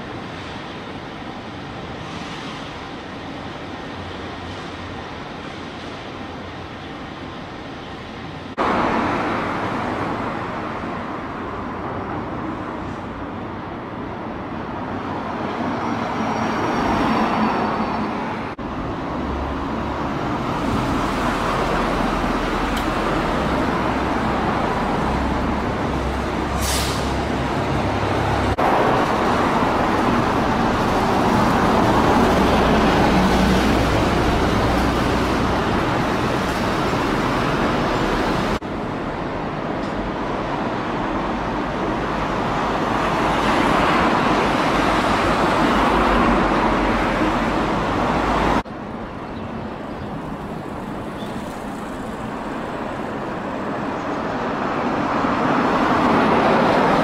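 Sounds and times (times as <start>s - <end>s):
cars and trucks driving past: 8.0s - 57.0s.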